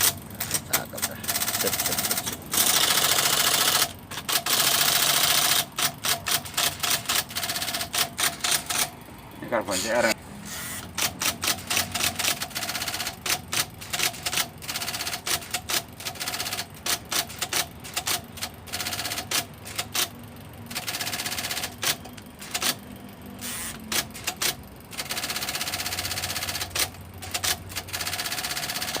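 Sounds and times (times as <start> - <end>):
electric typewriter key strikes: 0.0 - 8.9, 10.8 - 29.0
typewriter motor hum: 0.0 - 29.0.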